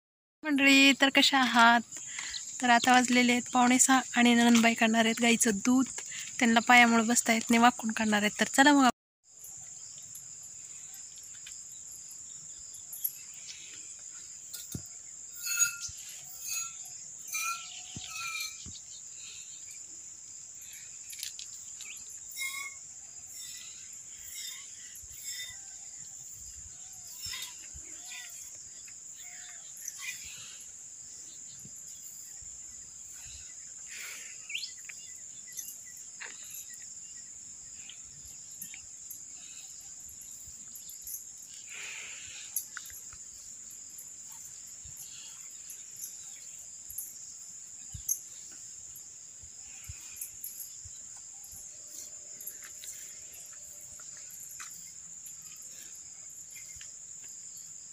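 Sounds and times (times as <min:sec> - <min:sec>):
insects chirring: 0:00.4 - 0:57.9.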